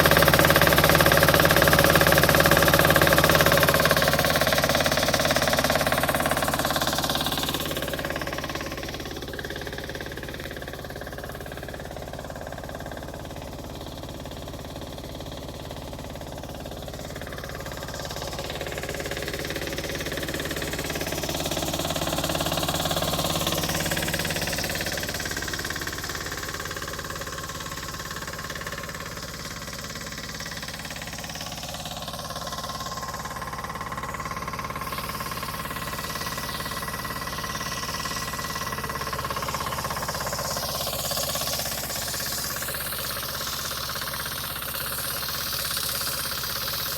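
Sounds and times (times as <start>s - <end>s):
diesel compressor running: 0.0s - 46.9s.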